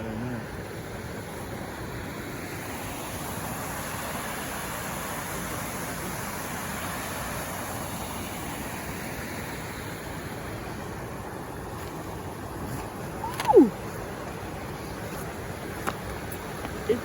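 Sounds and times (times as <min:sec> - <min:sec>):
river water rushing over rocks: 0:00.4 - 0:17.0.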